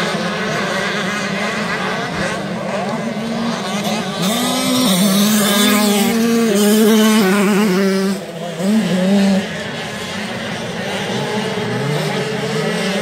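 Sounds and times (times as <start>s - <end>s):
motocross motorcycle engine revving: 0.0s - 13.0s.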